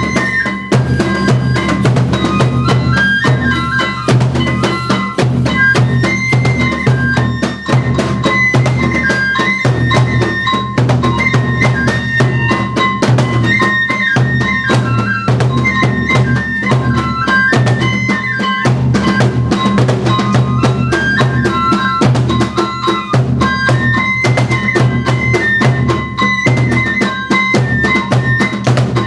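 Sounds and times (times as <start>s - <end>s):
bamboo flute melody: 0.0s - 29.0s
fast taiko drumming: 0.0s - 29.0s.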